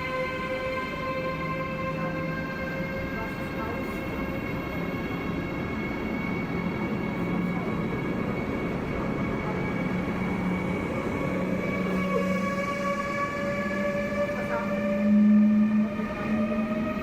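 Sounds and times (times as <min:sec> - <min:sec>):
train whine over rumble: 0:00.0 - 0:17.0.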